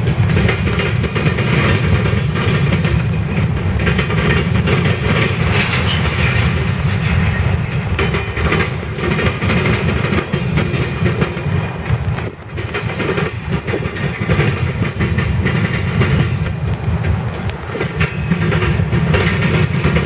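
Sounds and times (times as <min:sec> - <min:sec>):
freight train rumbling past: 0:00.0 - 0:20.0
wheels clicking over rail joints: 0:00.0 - 0:20.0.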